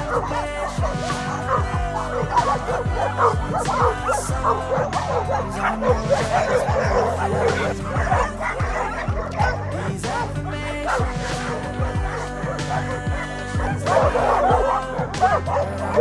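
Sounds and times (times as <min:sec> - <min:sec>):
background music: 0:00.0 - 0:16.0
dogs barking and yipping: 0:00.0 - 0:16.0.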